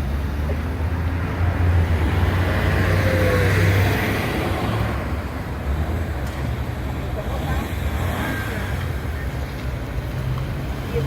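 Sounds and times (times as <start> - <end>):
low traffic rumble: 0.0 - 11.0
vehicle passing by: 0.2 - 9.2.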